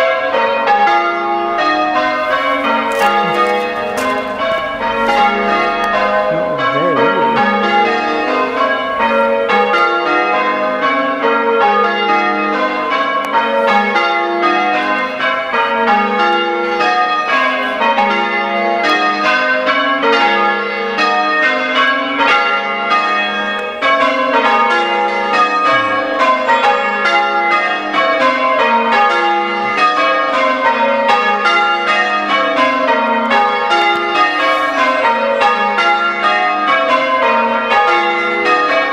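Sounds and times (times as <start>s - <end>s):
church bells ringing in changes: 0.0s - 38.9s.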